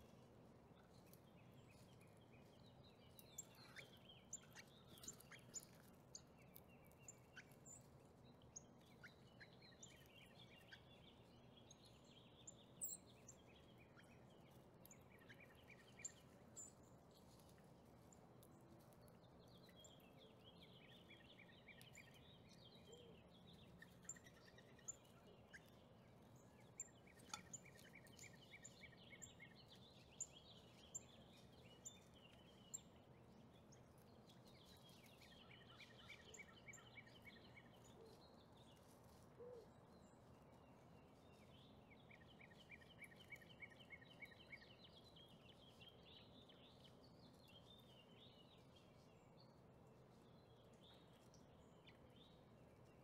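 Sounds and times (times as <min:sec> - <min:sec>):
faint bird song: 0:00.0 - 0:53.0.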